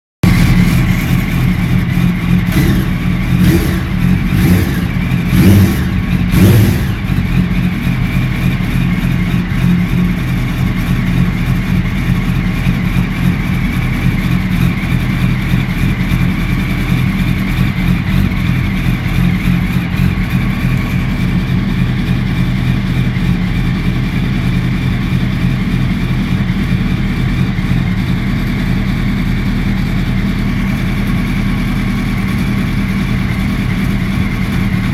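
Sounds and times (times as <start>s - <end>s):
motorcycle engine idling: 0.2s - 34.9s
motorcycle engine revving: 0.2s - 34.9s.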